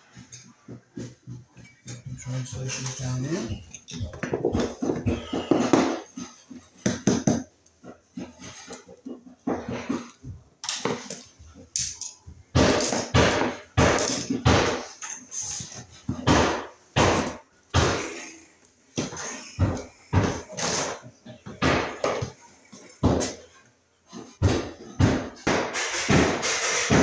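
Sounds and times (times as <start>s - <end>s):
tools knocking on plywood floor: 0.2s - 7.5s, 9.0s - 18.2s, 18.9s - 23.4s, 24.1s - 27.0s.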